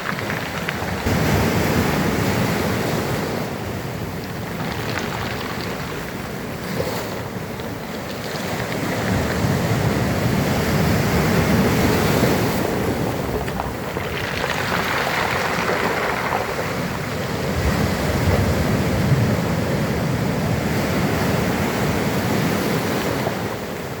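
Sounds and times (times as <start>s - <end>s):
sea waves breaking: 0.0s - 24.0s.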